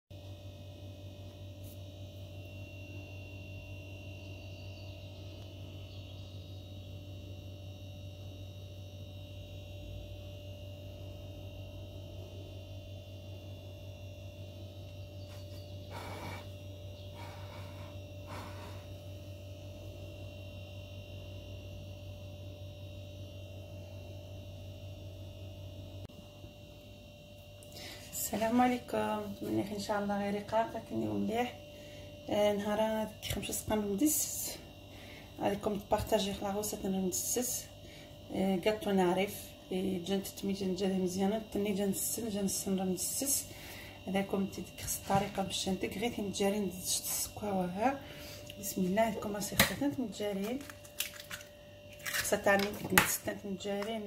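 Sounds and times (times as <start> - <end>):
electrical hum: 0.1 - 54.0.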